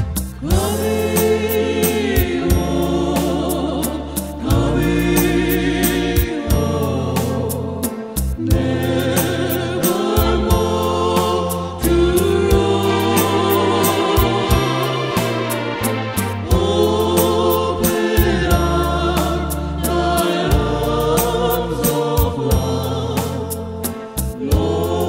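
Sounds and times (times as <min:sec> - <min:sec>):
steady percussion beat: 0:00.0 - 0:25.0
sustained bass notes: 0:00.0 - 0:25.0
voices singing a hymn: 0:00.4 - 0:25.0.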